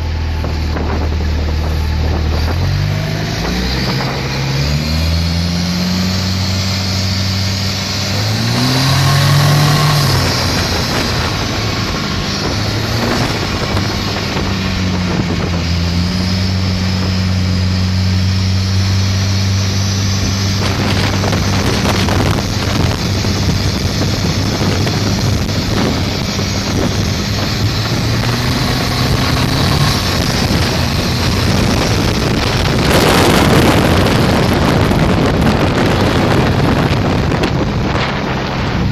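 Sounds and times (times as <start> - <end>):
motorboat engine running: 0.0 - 38.9
rushing wind and water: 0.0 - 38.9.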